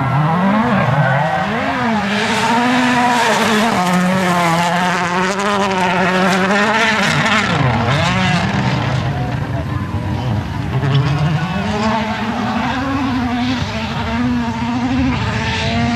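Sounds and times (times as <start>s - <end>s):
rally car engine at high revs: 0.0s - 15.9s.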